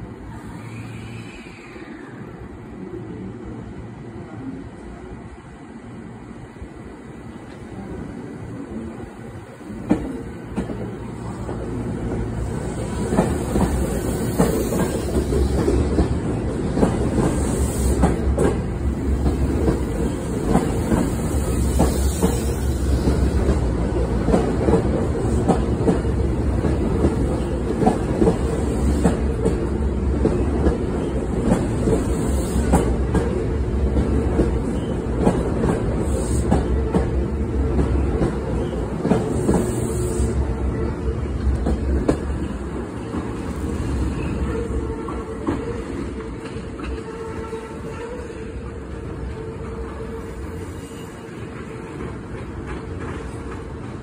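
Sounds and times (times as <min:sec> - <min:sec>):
electric train running past: 0:00.0 - 0:54.0.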